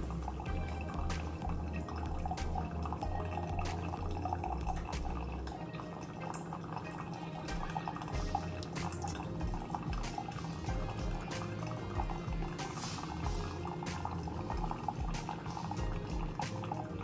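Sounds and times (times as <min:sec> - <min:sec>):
coffee dripping into mug: 0:00.0 - 0:17.0.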